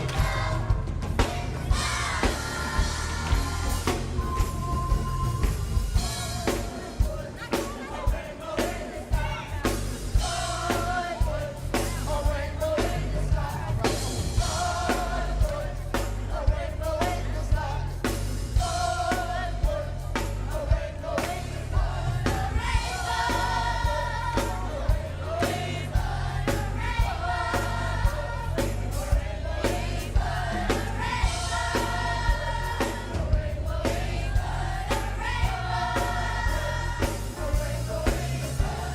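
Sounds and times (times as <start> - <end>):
band with bass and drums: 0.0 - 38.9
choir singing gospel: 0.0 - 38.9.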